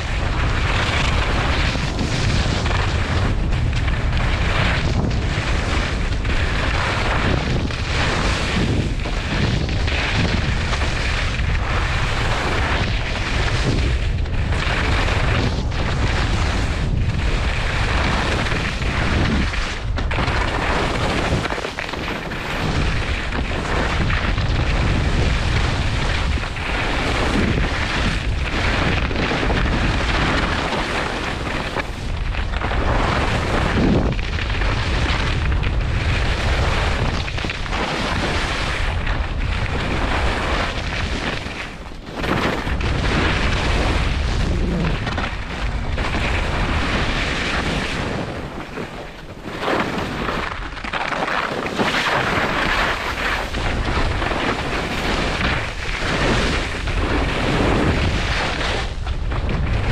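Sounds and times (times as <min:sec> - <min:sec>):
skis scraping on snow: 0:00.0 - 0:59.9
wind buffeting microphone: 0:00.0 - 0:59.9.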